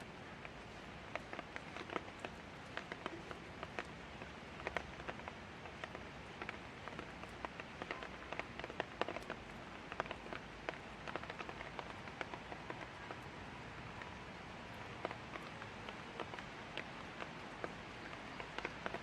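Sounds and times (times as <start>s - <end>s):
light rain hissing: 0.0s - 19.0s
raindrops hitting close by: 0.0s - 19.0s.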